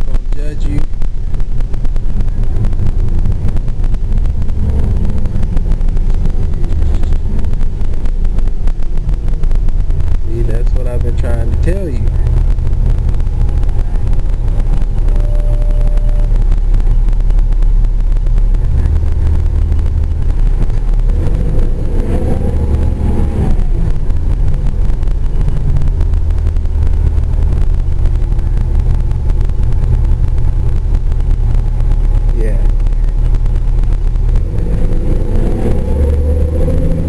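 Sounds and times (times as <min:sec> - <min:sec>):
bus engine and road drone: 0:00.0 - 0:37.0
rising and falling whine: 0:00.0 - 0:37.0.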